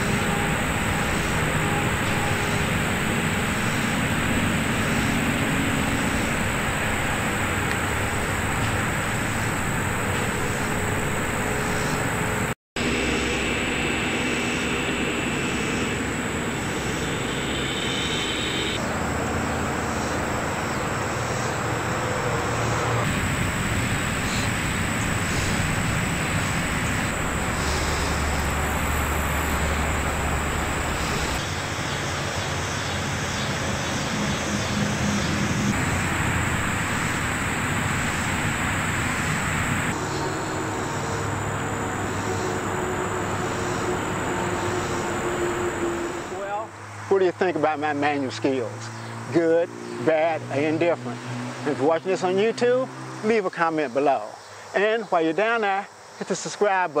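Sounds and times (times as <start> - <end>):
steady outdoor hum: 0.0 - 57.0.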